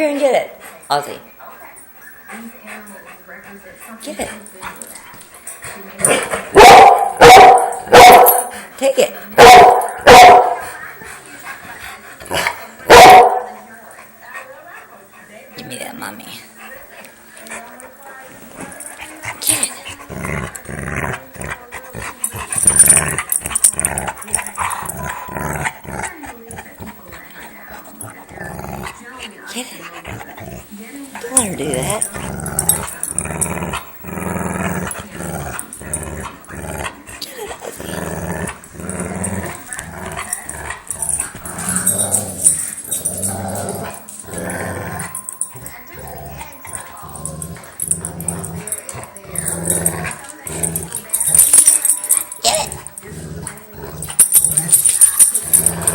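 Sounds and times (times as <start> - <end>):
dogs growling in play: 2.2 - 55.9.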